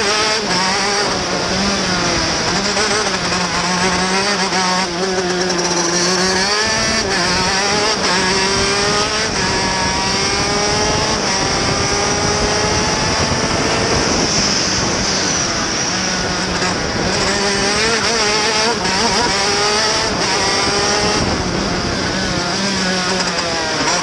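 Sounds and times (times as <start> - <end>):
kart engine revving: 0.0 - 24.0.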